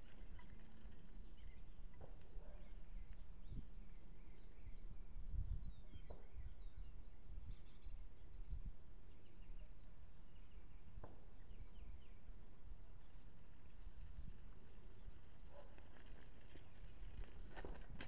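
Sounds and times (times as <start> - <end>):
wind rumbling on microphone: 0.0 - 9.9, 10.7 - 18.0
faint bird chirps: 0.0 - 15.7.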